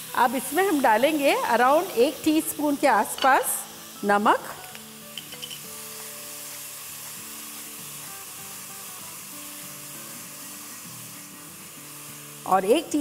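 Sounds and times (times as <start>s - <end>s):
soft background music: 0.0s - 13.0s
vegetables sizzling in oil: 0.0s - 13.0s.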